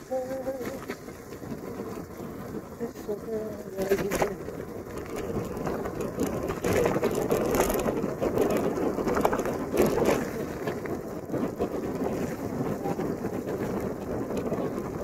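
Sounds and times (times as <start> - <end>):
bicycle tyres crunching on wet grit: 0.0 - 15.0.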